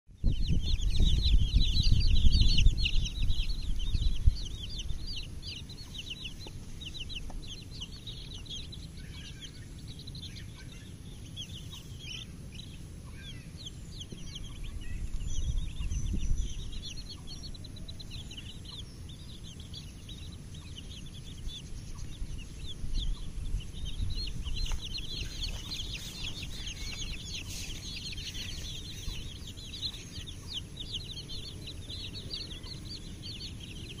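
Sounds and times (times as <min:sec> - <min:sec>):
chicks peeping: 0:00.2 - 0:34.0.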